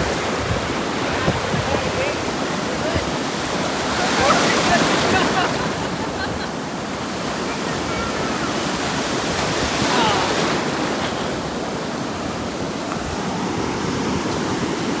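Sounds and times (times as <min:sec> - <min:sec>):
sea surf washing in: 0:00.0 - 0:15.0.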